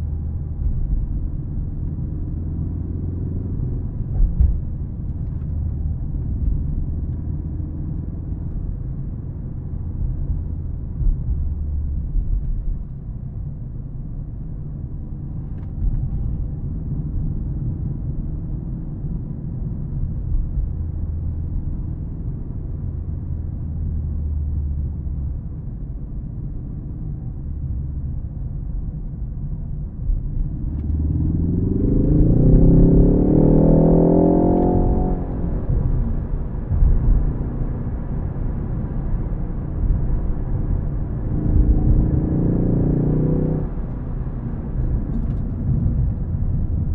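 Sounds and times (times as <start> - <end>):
car engine rumbling: 0.0 - 46.9.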